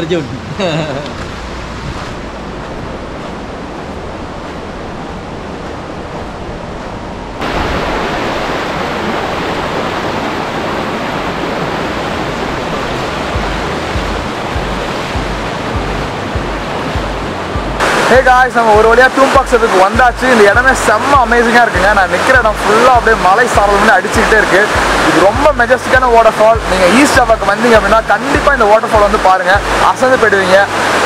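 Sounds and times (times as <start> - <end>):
river water rushing over rocks: 1.1 - 31.0.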